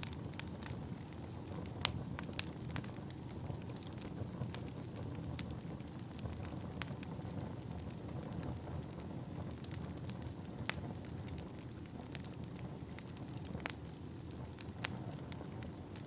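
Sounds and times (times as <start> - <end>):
low rush of flames: 0.0 - 16.0
wood crackling and popping: 0.0 - 16.0.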